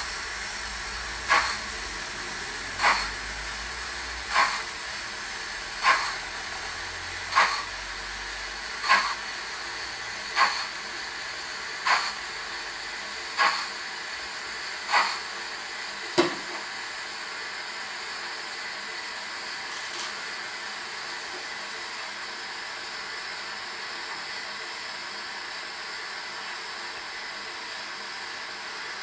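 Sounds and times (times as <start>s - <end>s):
model locomotive steam chuffs: 0.0s - 29.0s
steady steam hiss: 0.0s - 29.0s.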